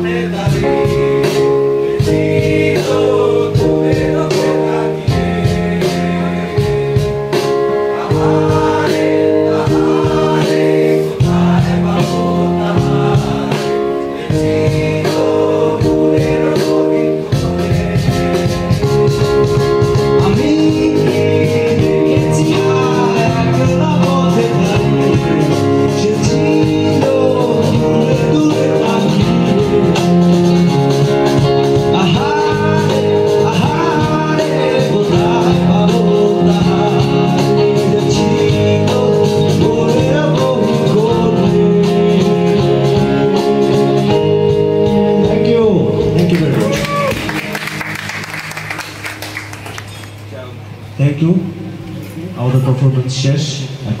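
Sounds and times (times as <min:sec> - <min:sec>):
man singing: 0:00.0 - 0:47.1
electronic keyboard: 0:00.0 - 0:54.0
guitar: 0:00.0 - 0:54.0.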